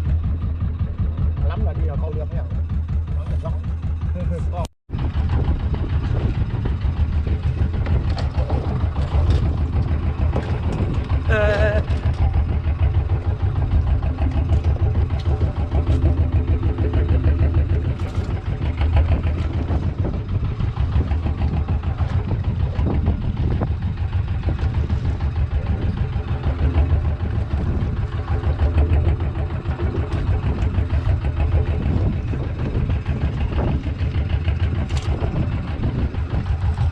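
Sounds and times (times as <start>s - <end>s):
boat engine humming: 0.0s - 36.9s.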